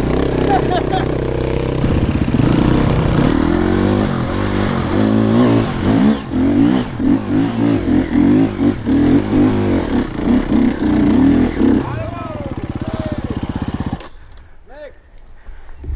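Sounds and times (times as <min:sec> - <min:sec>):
dirt bike engine revving: 0:00.0 - 0:14.3.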